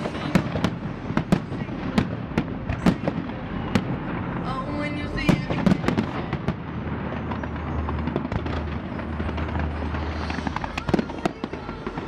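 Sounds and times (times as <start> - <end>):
fireworks crackling and popping: 0.0 - 12.0
low rumble: 0.0 - 12.0.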